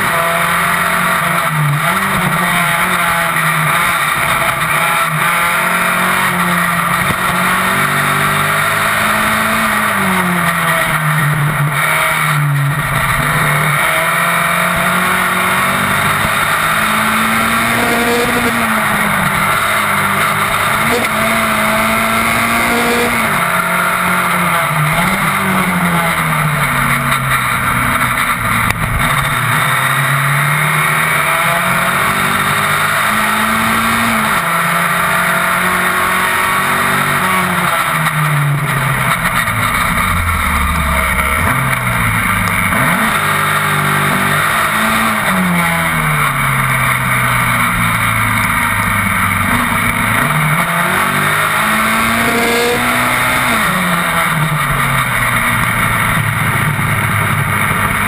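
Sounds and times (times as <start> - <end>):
racing car engine revving: 0.0 - 58.0
wind and road noise rushing: 0.0 - 58.0.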